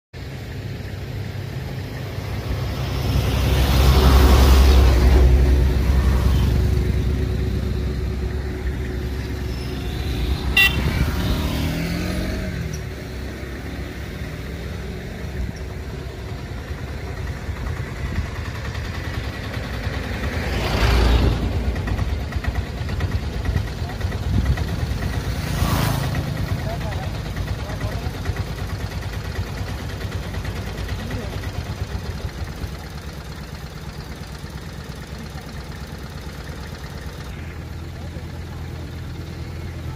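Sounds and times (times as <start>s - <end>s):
motor vehicles passing by: 0.2s - 39.9s.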